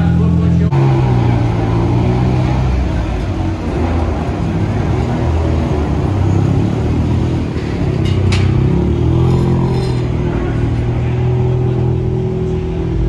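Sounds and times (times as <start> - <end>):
rally car engine running: 0.0 - 13.0.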